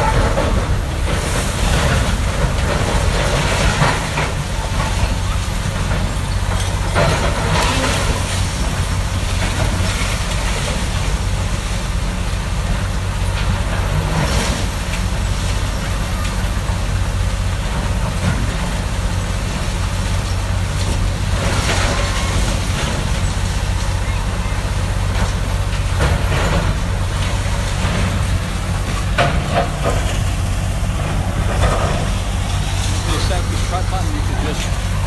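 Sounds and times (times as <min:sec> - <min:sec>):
diesel demolition machinery running: 0:00.0 - 0:35.0.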